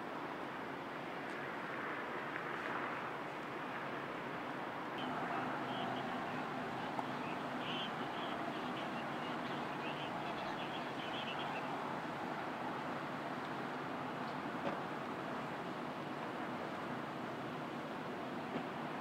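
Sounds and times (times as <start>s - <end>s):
street noise rumble: 2.7s - 19.0s.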